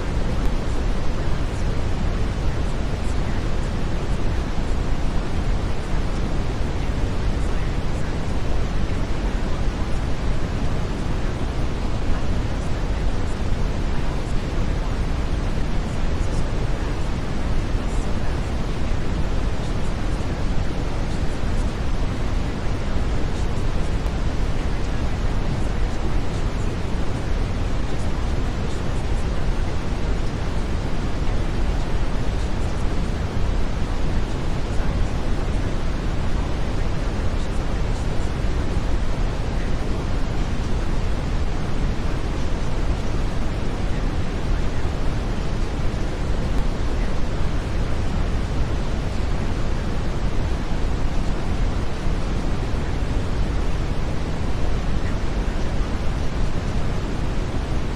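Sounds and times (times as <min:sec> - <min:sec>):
brown noise hiss: 0:00.0 - 0:57.9.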